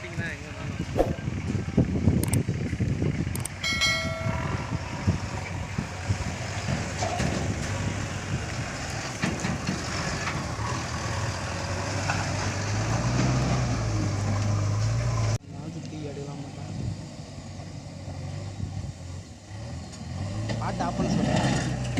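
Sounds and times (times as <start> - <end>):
construction machinery engines running: 0.0 - 21.9
low engine hum: 0.0 - 21.9.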